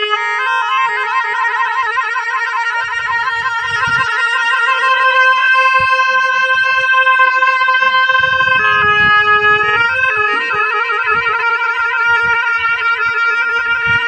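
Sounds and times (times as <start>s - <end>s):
reed wind instrument melody: 0.0s - 14.0s.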